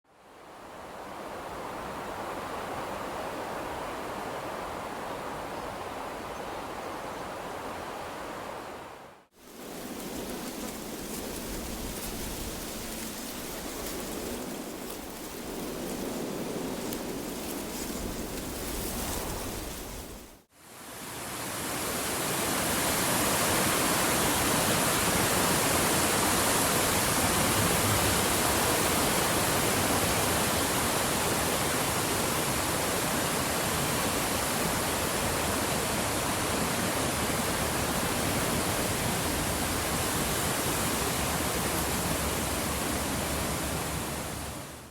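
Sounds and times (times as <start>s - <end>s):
blowing wind: 0.3s - 44.9s.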